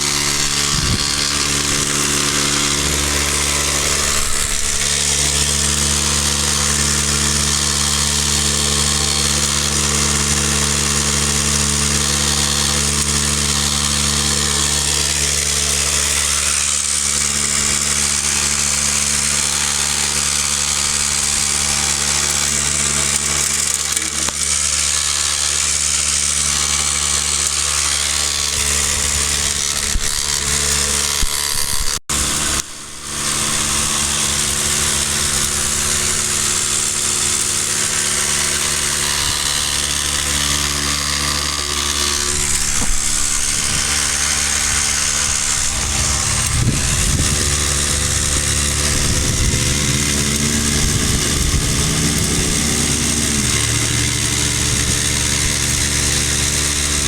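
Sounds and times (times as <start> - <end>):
motor hum: 0.0 - 57.0
vibrating tray rattling: 0.0 - 57.0.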